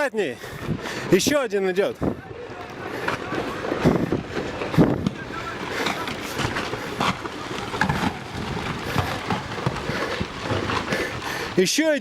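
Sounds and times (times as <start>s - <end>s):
rocks tumbling and clattering: 0.6s - 12.0s.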